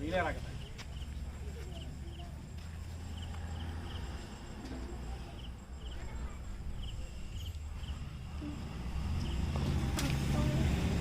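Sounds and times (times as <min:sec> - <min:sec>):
insect chirps: 0:00.0 - 0:11.0.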